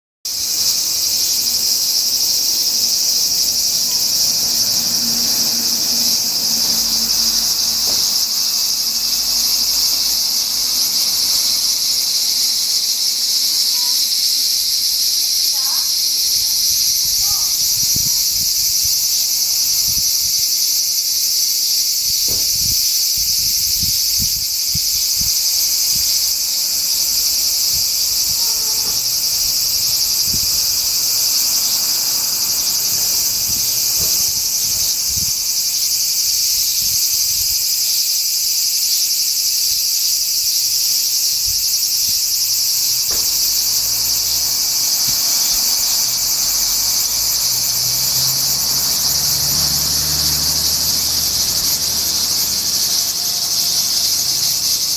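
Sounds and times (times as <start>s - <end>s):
cicadas buzzing: 0.2s - 54.9s.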